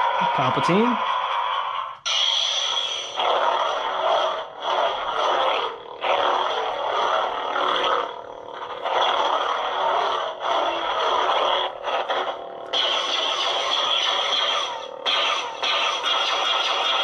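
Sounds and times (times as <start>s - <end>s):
lightsaber buzzing hum: 0.0s - 17.0s
lightsaber swing sounds: 2.1s - 17.0s.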